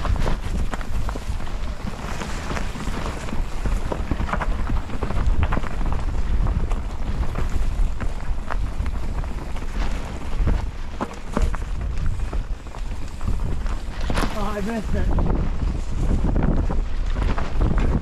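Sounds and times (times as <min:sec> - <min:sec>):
bike rattling and knocking: 0:00.0 - 0:18.0
wind buffeting microphone: 0:00.0 - 0:18.0.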